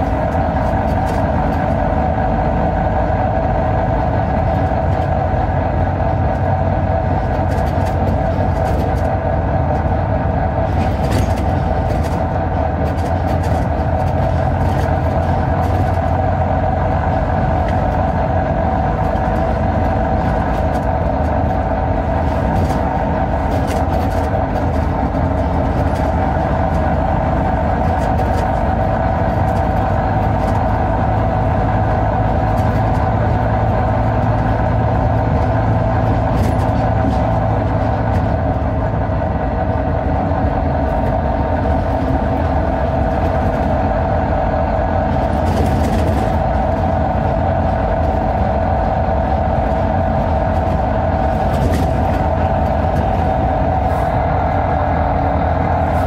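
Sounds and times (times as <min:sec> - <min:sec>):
diesel bus engine droning: 0:00.0 - 0:56.0.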